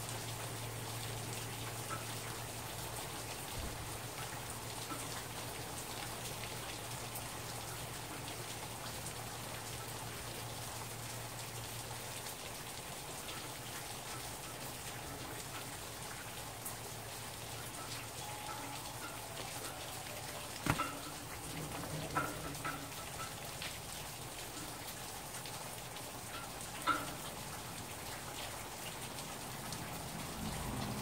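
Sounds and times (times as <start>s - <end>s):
rain falling: 0.0s - 31.0s
raindrops ticking on surfaces: 0.0s - 31.0s.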